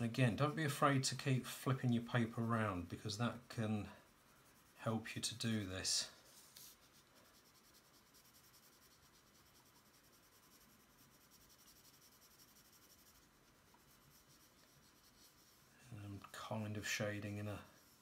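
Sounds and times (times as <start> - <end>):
pencil scratching on paper: 0.4 - 18.0.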